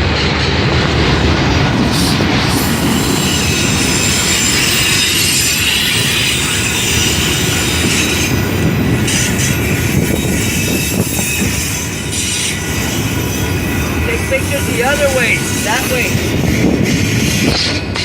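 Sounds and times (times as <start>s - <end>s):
train cars rumbling on rails: 0.0s - 18.0s
high wheel squeal: 2.0s - 17.8s.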